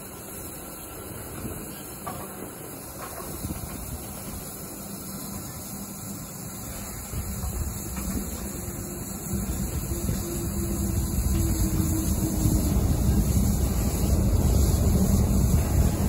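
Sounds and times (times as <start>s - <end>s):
steam train rumble and hiss: 0.0s - 16.0s.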